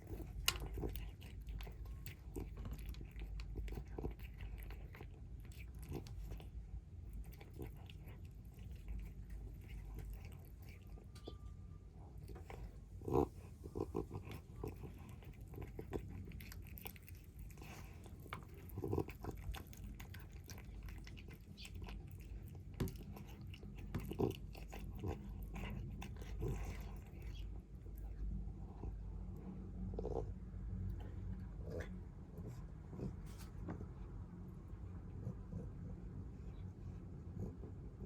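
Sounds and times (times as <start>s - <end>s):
kittens chewing and crunching food: 0.0s - 38.0s
low background rumble: 0.0s - 38.0s.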